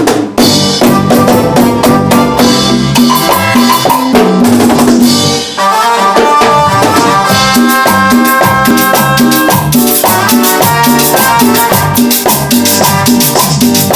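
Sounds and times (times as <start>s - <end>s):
drum kit and percussion beat: 0.0s - 13.9s
held pitched notes: 0.4s - 13.9s.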